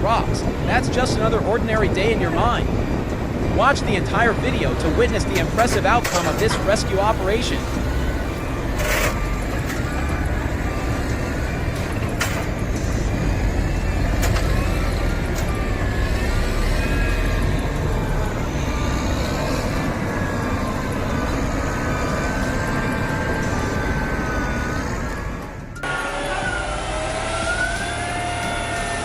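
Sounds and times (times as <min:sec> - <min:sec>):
heavy truck engine rumbling: 0:00.0 - 0:29.0.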